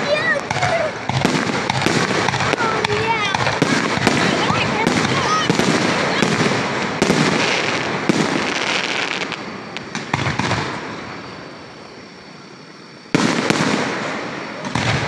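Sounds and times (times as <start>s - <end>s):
fireworks bursting with bangs: 0.0s - 15.0s.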